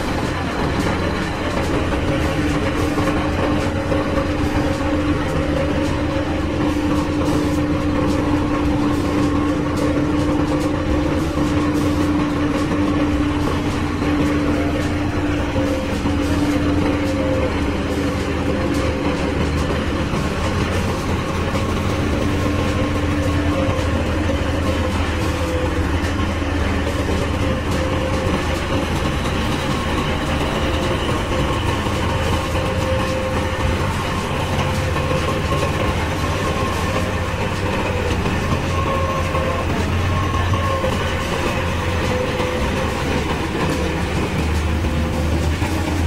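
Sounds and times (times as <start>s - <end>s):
road roller diesel engine: 0.0s - 46.0s.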